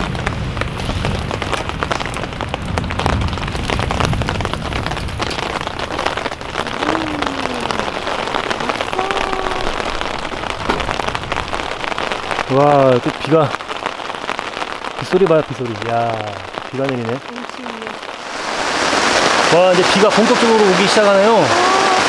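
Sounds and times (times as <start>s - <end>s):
rain drops striking a surface: 0.0s - 22.0s.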